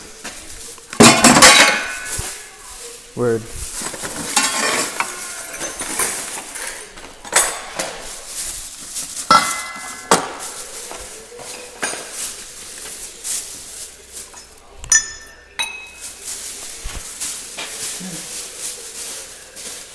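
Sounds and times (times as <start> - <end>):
metal tools clinking: 0.0 - 19.9.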